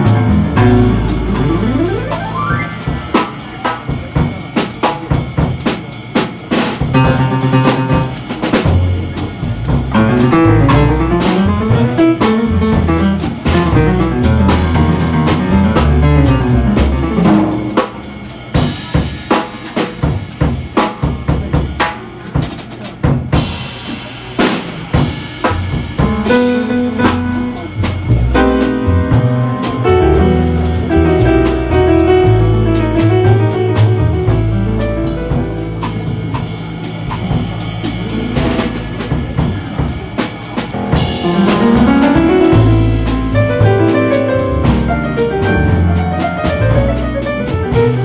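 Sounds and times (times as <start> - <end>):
drum solo: 0.0 - 48.0
jazz band playing: 0.0 - 48.0.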